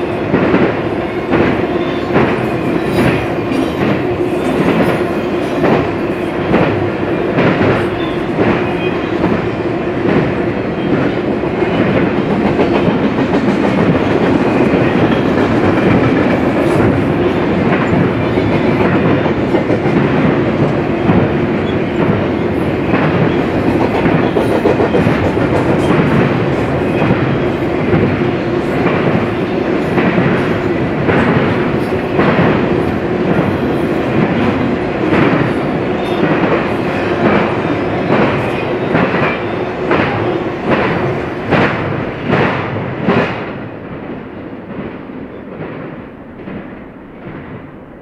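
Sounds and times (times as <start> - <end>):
freight train rolling past: 0.0 - 48.0.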